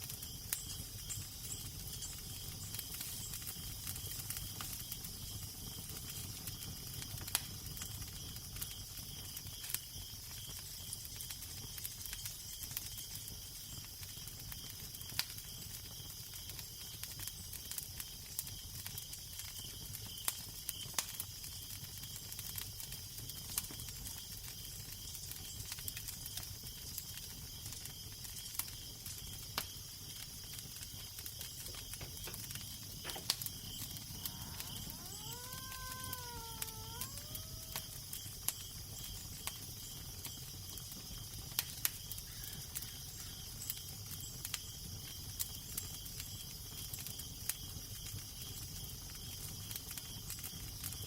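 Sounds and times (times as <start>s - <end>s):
fire pops and snaps: 0.0s - 42.8s
fire hiss: 0.0s - 51.0s.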